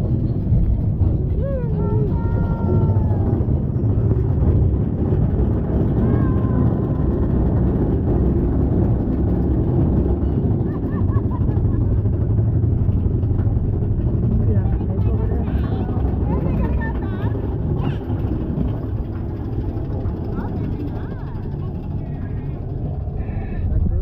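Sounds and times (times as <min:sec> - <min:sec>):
roller coaster rumbling on rails: 0:00.0 - 0:24.0.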